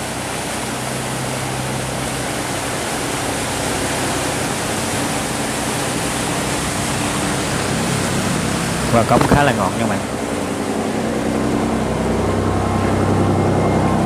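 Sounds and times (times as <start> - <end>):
diesel engine at full throttle: 0.0 - 14.0
rushing churning water: 0.0 - 14.0.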